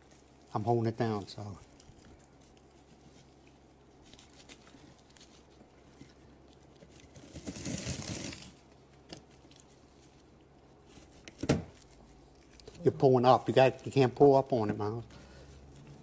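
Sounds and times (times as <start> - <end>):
bubble wrap crinkling: 0.0 - 16.0
hands rustling with strap: 0.0 - 16.0.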